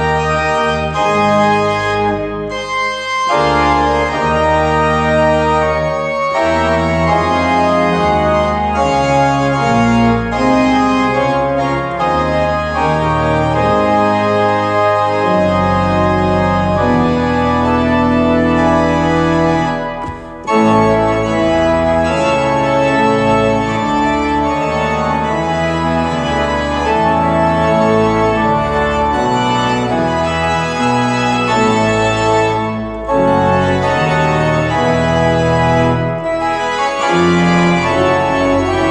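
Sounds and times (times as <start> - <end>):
organ playing sustained chords: 0.0 - 38.9.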